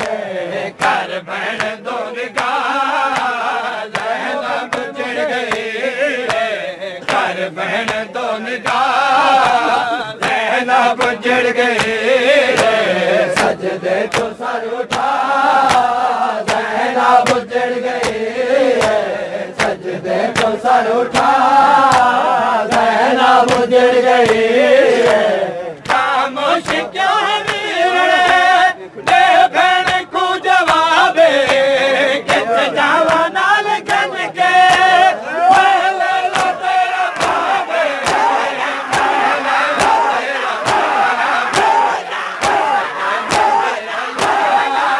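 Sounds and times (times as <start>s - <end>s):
men chanting a lament in unison: 0.0s - 44.9s
hands slapping bare chests: 0.8s - 28.4s, 29.1s - 31.7s, 32.3s - 36.6s, 37.2s - 44.7s.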